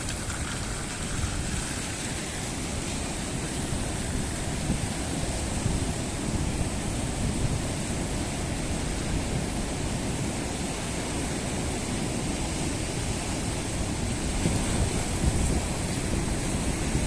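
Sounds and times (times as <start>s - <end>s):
wind gusts buffeting microphone: 0.0s - 17.0s
windy rainstorm rushing: 0.0s - 17.0s.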